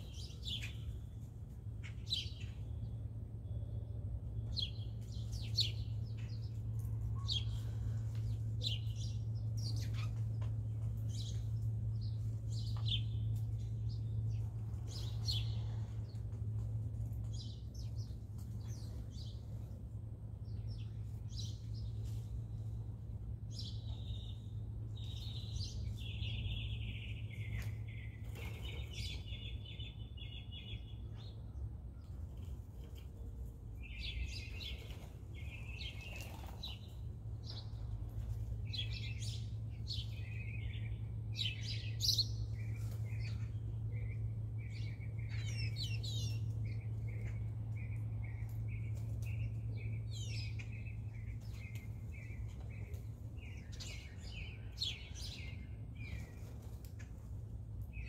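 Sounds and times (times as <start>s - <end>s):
birds chirping and calling: 0.0s - 2.9s, 4.4s - 19.7s, 23.5s - 33.0s, 33.8s - 57.2s
steady low hum: 0.0s - 58.0s.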